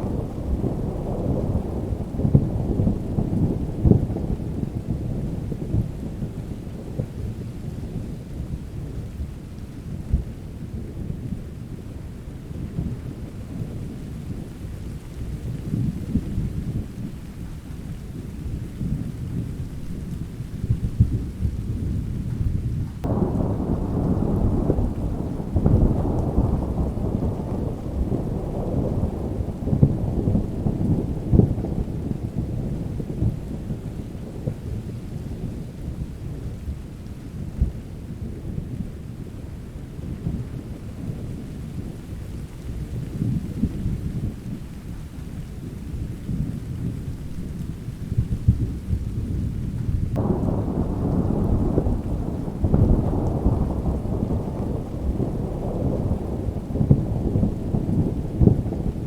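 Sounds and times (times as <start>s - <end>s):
steady rain: 0.0s - 59.0s
thunder rumbling and cracking: 0.0s - 59.0s.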